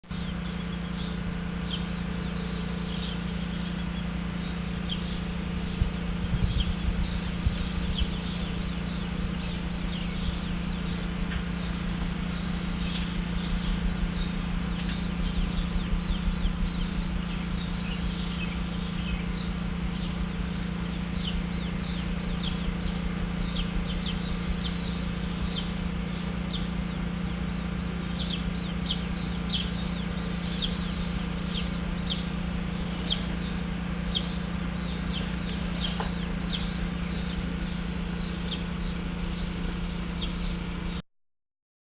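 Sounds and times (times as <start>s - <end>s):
steady low hum: 0.0s - 41.0s
sparrows chirping: 0.1s - 41.0s.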